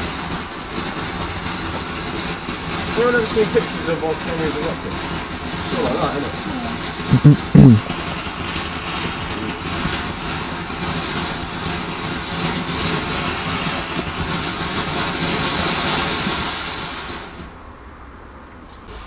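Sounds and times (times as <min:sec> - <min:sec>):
firework fountain hissing: 0:00.0 - 0:19.0.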